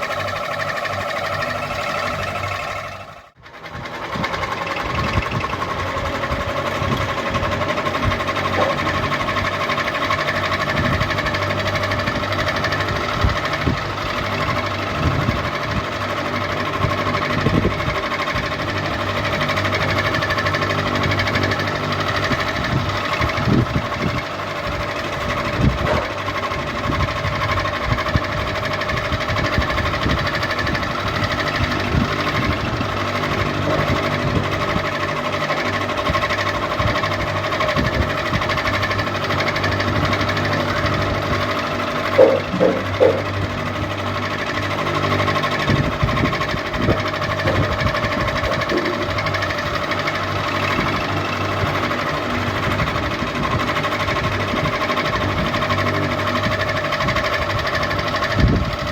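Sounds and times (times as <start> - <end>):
ceiling fan motor hum: 0.0 - 58.9
fan mechanical rattle: 0.0 - 58.9.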